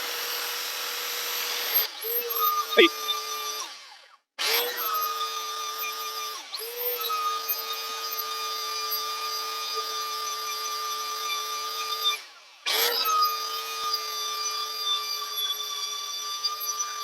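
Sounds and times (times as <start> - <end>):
power tool whining on wood: 0.0 - 17.0.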